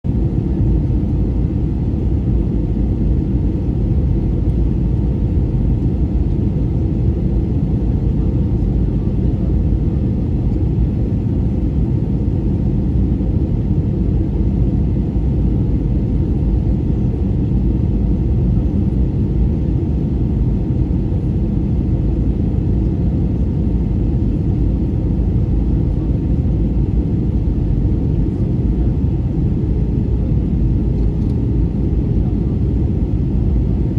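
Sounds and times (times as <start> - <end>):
airliner cabin rumble: 0.1 - 33.9.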